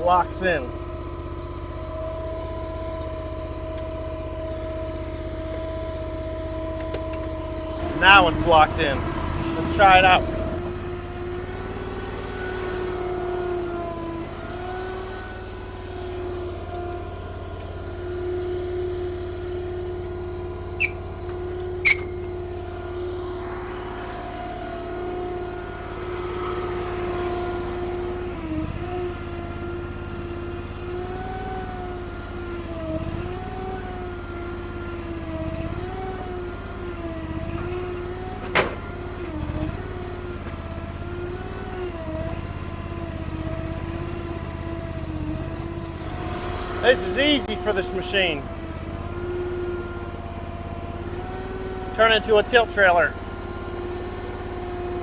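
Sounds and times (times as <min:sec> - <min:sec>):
gasoline engine running: 0:00.0 - 0:55.0.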